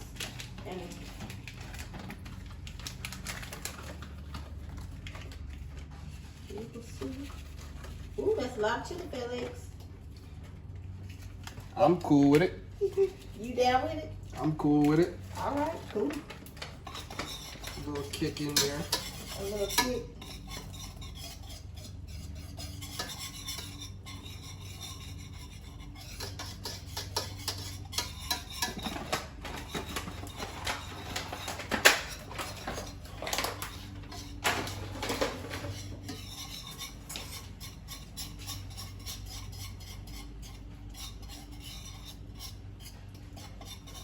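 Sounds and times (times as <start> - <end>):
utensil scraping against pan: 5.9 - 9.7, 11.8 - 44.0.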